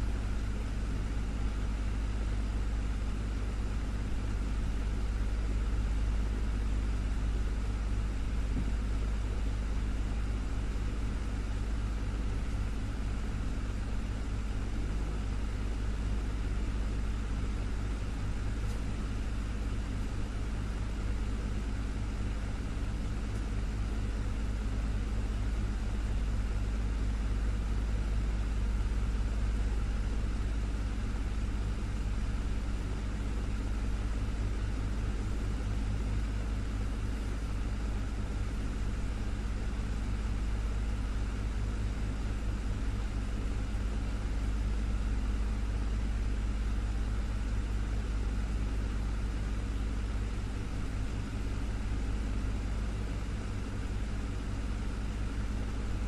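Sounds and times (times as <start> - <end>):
desktop fan running: 0.0 - 56.0.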